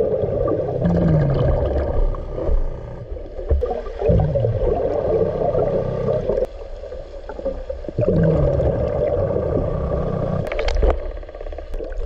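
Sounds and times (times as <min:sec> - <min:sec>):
underwater regulator bubbling: 0:00.0 - 0:06.5, 0:08.0 - 0:12.0.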